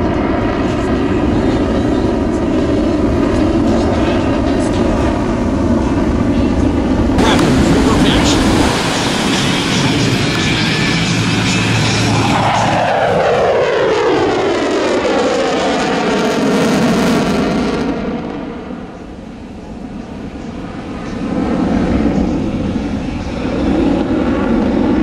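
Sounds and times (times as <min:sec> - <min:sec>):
jet fighter flyby: 0:00.0 - 0:25.0.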